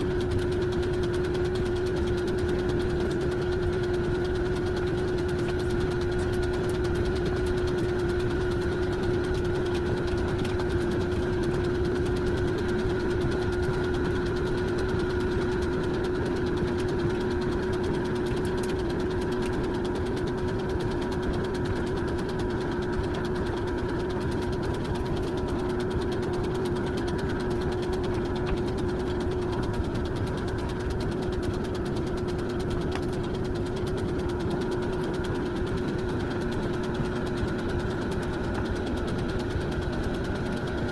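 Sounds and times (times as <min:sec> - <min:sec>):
motor whining and rattling: 0:00.0 - 0:40.9.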